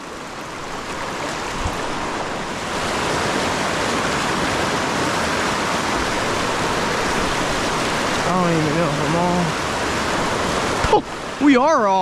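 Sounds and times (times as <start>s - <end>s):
river water rushing over rapids: 0.0s - 12.0s.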